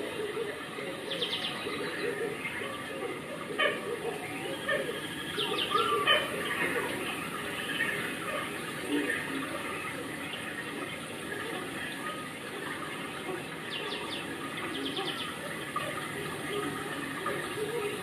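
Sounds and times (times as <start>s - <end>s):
bird calling: 0.0s - 18.0s
running water: 0.0s - 18.0s.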